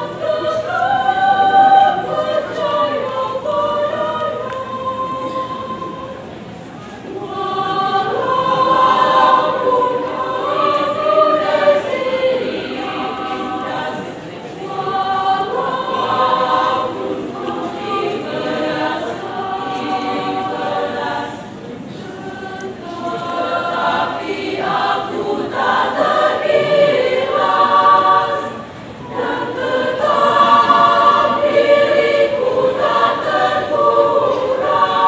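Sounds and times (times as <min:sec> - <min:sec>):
women's choir singing: 0:00.0 - 0:35.0.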